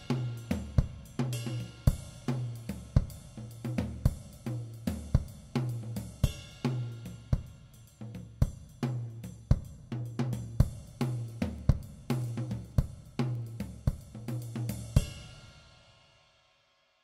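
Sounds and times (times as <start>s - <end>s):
music with drum beat and bass: 0.0s - 15.8s.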